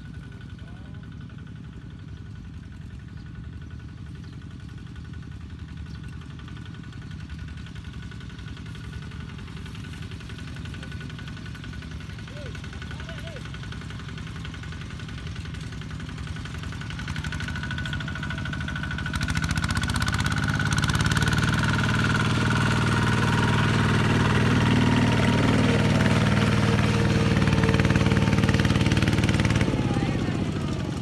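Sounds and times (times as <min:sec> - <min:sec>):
diesel walking tractor chugging: 0:00.0 - 0:31.0.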